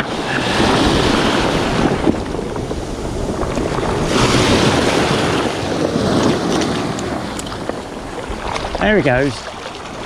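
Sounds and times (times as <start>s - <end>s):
waves breaking on pebble beach: 0.0s - 10.0s
wind buffeting microphone: 0.0s - 10.0s.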